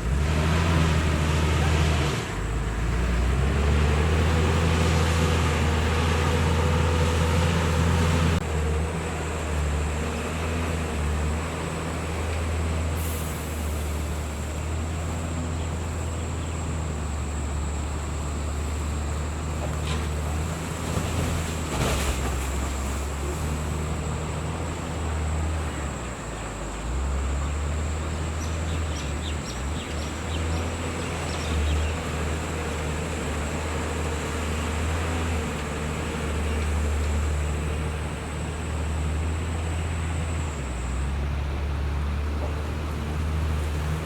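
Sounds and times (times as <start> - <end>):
heavy diesel engine droning: 0.0 - 44.0.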